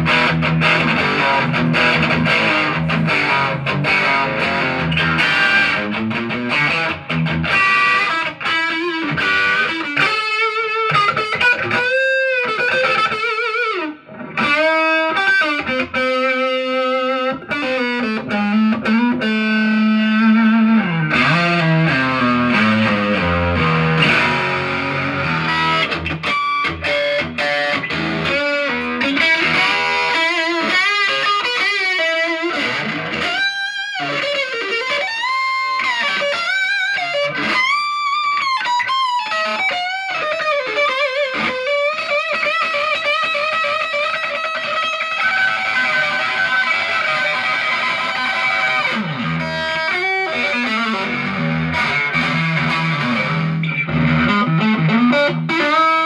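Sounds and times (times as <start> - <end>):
electric guitar lead lines: 0.0 - 56.0.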